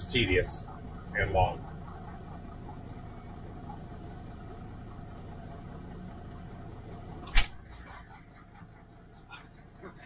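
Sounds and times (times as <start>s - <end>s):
truck engine hum: 0.0s - 10.0s.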